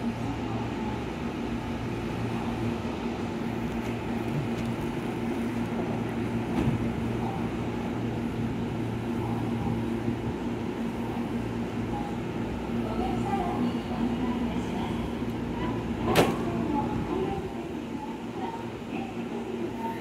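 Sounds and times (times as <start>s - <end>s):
electric train humming: 0.0s - 20.0s.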